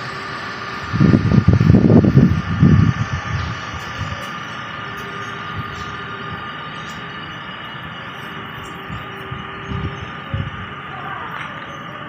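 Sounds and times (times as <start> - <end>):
steady background hum: 0.0 - 12.0
wind buffeting microphone: 0.7 - 11.5.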